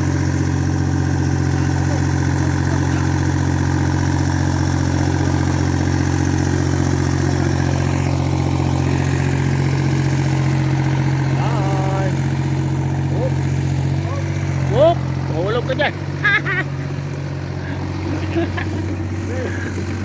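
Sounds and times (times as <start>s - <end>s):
backhoe engine running: 0.0s - 20.0s.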